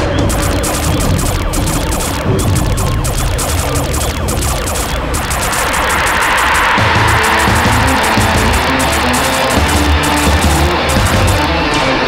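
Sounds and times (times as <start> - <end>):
cartoon laser-gun fire: 0.0 - 11.6.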